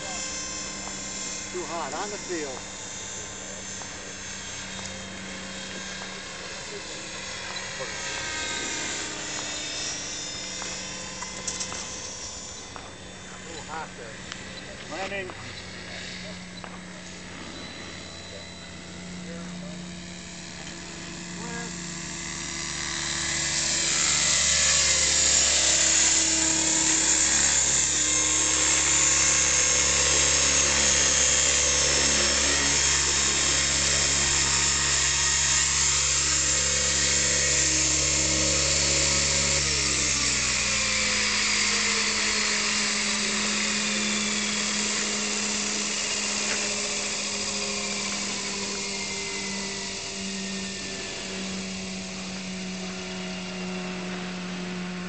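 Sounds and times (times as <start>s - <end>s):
model helicopter rotor whine: 0.0s - 55.0s.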